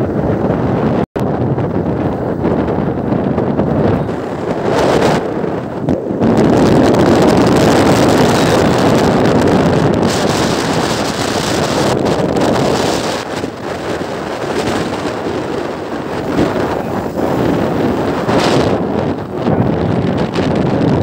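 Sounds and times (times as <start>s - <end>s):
wind rushing over microphone: 0.0s - 21.0s
motorcycle engine running: 1.3s - 21.0s.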